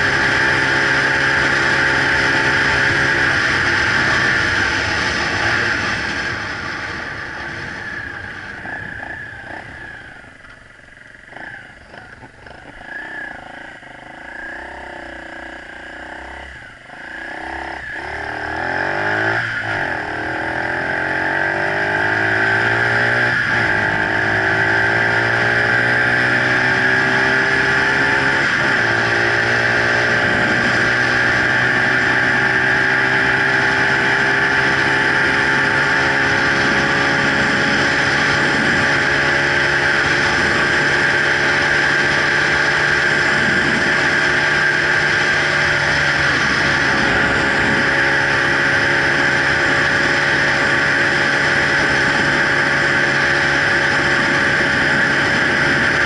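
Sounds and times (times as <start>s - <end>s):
small motorcycle engine revving: 0.0s - 56.0s.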